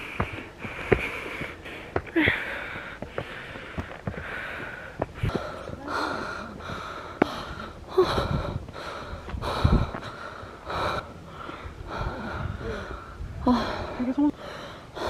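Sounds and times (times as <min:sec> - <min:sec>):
person breathing close to microphone: 0:00.0 - 0:15.0.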